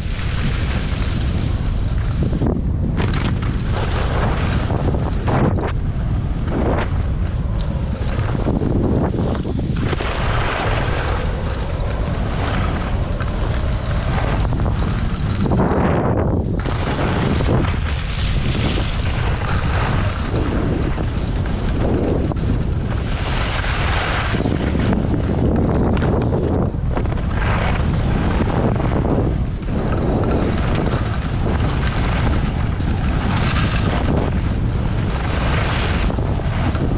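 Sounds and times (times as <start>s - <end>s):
skis scraping over snow: 0.0s - 36.9s
wind buffeting microphone: 0.0s - 36.9s.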